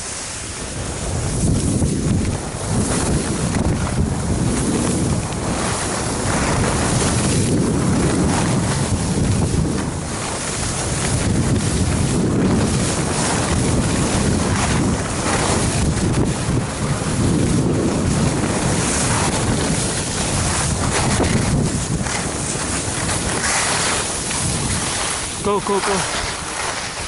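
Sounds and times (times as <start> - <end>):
skis scraping on snow: 0.0 - 27.0
wind buffeting microphone: 0.0 - 27.0.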